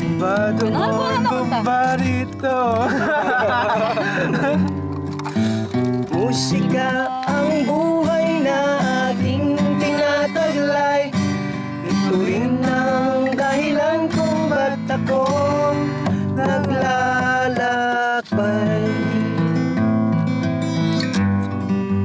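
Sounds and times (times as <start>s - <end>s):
person singing: 0.0s - 4.7s, 6.1s - 19.6s
acoustic guitar strumming: 0.0s - 22.0s.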